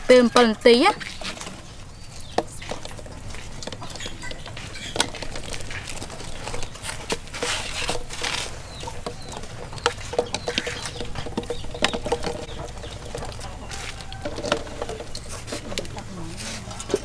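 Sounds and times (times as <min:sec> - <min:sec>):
birds chirping: 0:00.0 - 0:17.0
eggs clicking against metal pot: 0:01.4 - 0:16.1.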